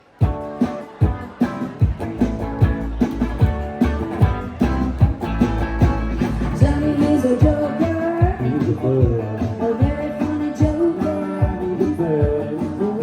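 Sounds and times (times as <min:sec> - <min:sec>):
band playing rock and roll: 0:00.0 - 0:13.0.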